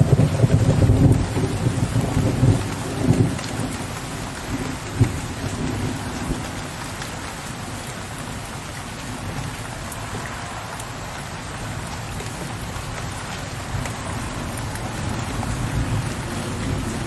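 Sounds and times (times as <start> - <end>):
distant thunder rumble: 0.0 - 10.3, 10.9 - 17.0
heavy rain on a window ledge: 0.0 - 17.0.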